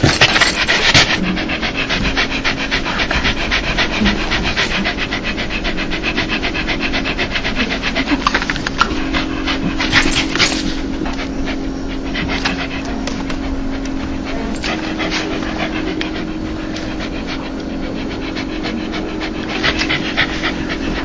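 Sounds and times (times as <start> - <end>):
dog panting rapidly: 0.0 - 21.0
faint steady hum: 0.0 - 21.0.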